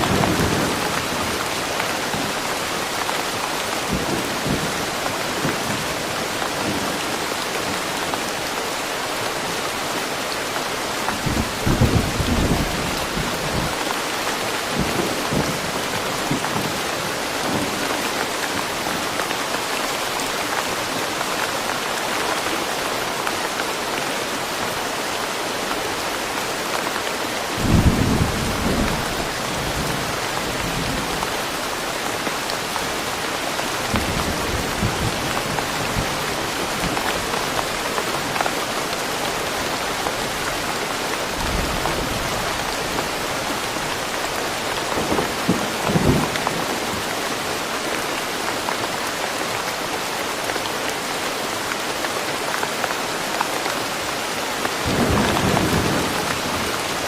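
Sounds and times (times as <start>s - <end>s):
rain falling through trees: 0.0s - 57.0s.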